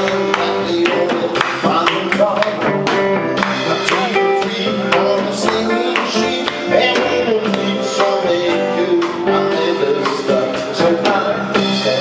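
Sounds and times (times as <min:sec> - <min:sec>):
live band playing dance music: 0:00.0 - 0:12.0.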